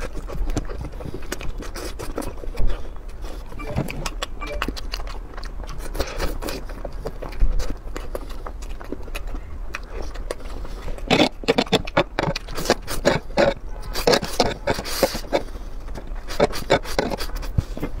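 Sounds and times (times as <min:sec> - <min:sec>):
noodles slurped and chewed: 0:00.0 - 0:18.0.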